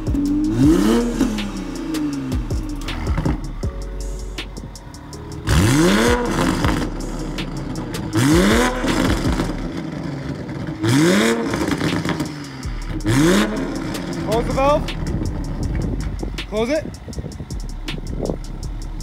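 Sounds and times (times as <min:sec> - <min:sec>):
car engine revving: 0:00.0 - 0:19.0
exhaust rush: 0:00.0 - 0:19.0.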